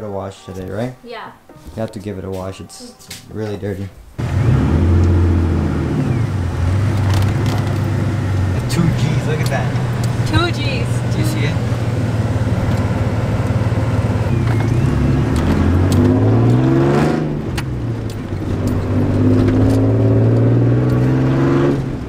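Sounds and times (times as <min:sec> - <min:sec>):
vehicle engine accelerating: 0:04.2 - 0:22.0.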